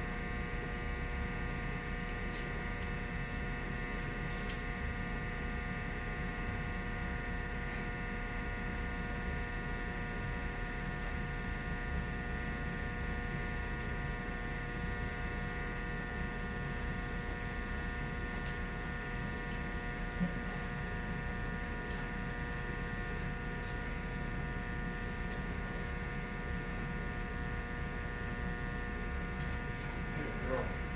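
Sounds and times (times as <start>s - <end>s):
electric hum with whine: 0.0s - 30.9s.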